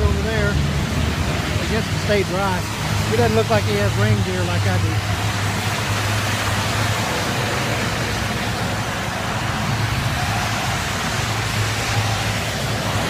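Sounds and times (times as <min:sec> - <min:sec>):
heavy rain hissing: 0:00.0 - 0:13.0
tyres spraying water: 0:00.0 - 0:13.0.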